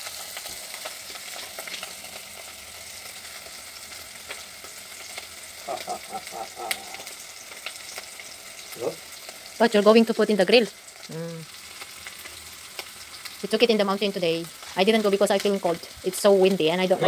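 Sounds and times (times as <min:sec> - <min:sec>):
mushrooms sizzling in pot: 0:00.0 - 0:17.0.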